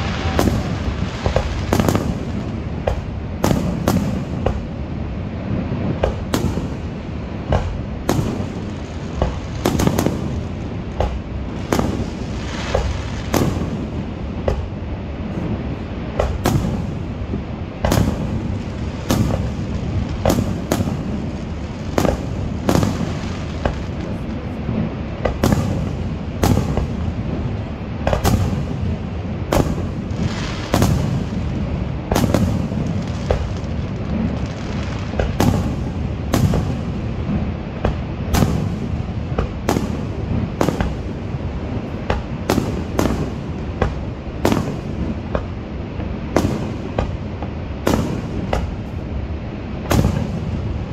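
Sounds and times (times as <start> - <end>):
fireworks bursting: 0.0 - 50.9
steady low rumble: 0.0 - 50.9.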